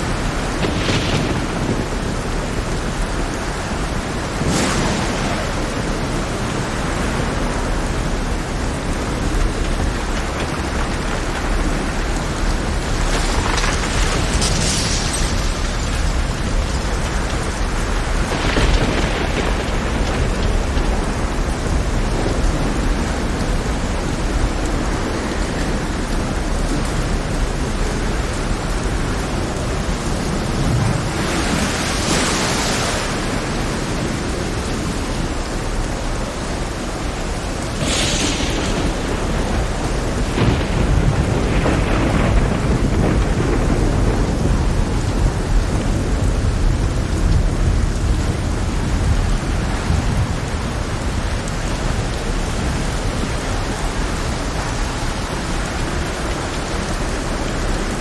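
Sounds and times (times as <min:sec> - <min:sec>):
deep rumble of thunder: 0:00.0 - 0:58.0
heavy rain falling: 0:00.0 - 0:58.0.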